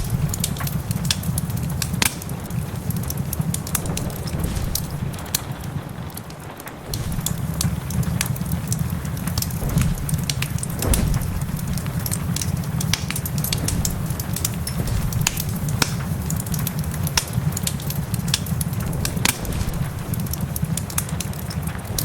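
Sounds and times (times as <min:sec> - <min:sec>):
low rumble: 0:00.0 - 0:01.0, 0:03.5 - 0:06.1, 0:06.8 - 0:21.2
fire crackling and popping: 0:00.0 - 0:22.0
rain hiss: 0:00.0 - 0:22.0.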